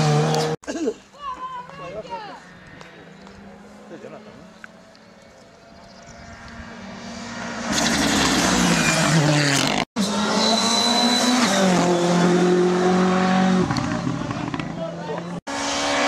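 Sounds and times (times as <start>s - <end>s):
rally car engine at full throttle: 0.0s - 0.6s, 2.5s - 16.0s.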